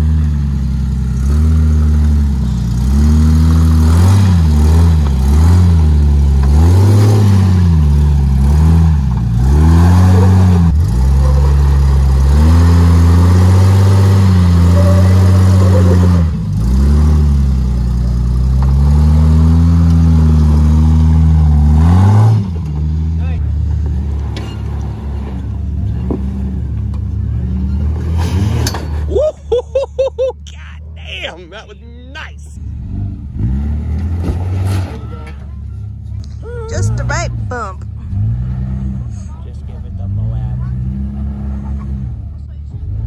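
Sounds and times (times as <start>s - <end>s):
engine revving up and down: 1.1s - 29.1s, 32.6s - 35.3s, 36.7s - 43.0s.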